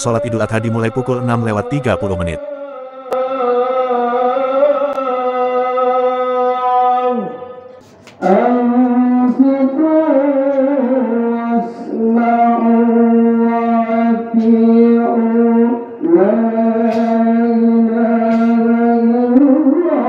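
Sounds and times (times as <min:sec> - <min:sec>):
man chanting over loudspeaker: 0:00.0 - 0:20.0.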